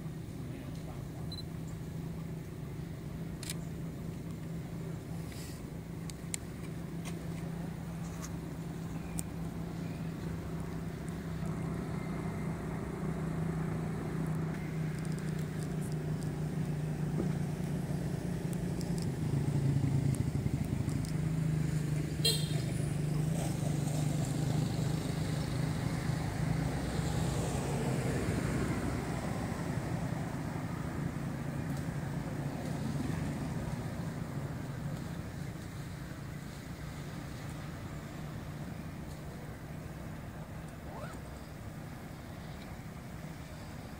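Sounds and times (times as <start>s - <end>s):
traffic noise: 0.0s - 43.9s
vehicle engine humming: 0.0s - 43.9s.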